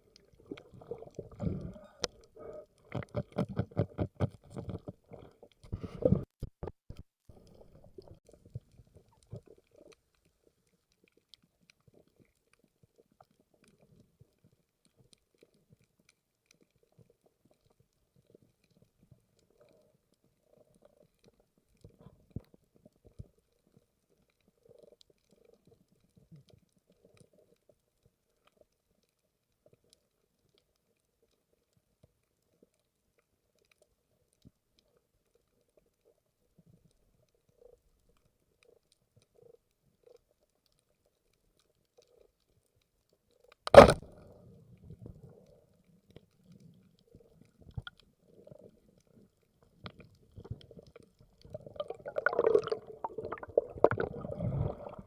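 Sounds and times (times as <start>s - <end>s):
faint underwater ambience: 0.0s - 55.0s.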